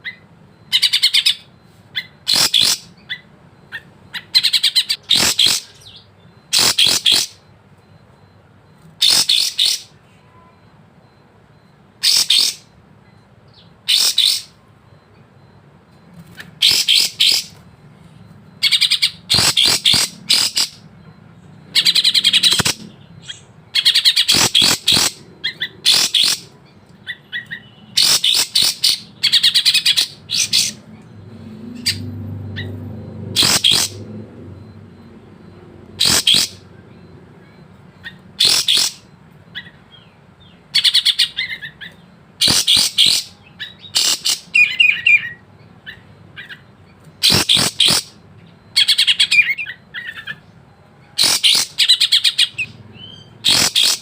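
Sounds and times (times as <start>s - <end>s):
bird chattering song: 0.0s - 7.4s, 9.0s - 10.0s, 12.0s - 15.3s, 16.2s - 17.6s, 18.6s - 34.2s, 36.0s - 54.0s.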